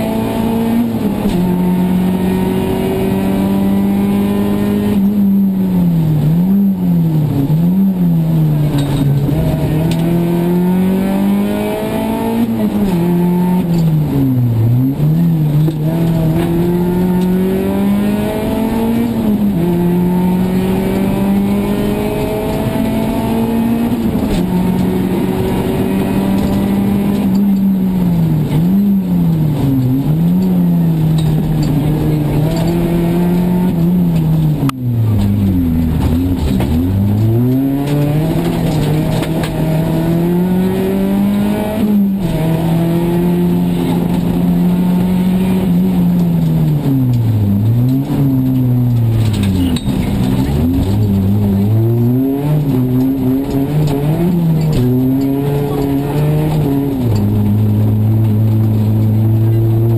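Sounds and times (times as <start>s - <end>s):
rally car engine revving through gears: 0.0s - 59.9s.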